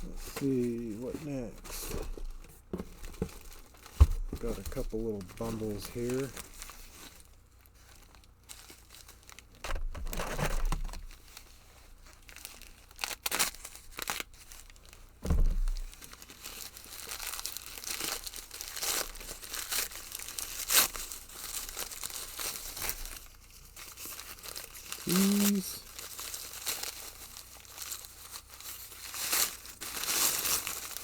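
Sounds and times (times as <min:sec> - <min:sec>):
packaging crinkling and tearing: 0:00.0 - 0:31.0.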